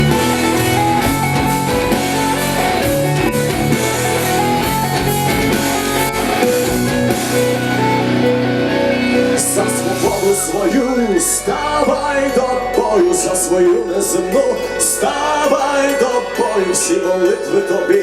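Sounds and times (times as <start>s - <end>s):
electric guitar: 0.0s - 18.0s
live rock band playing: 0.0s - 18.0s.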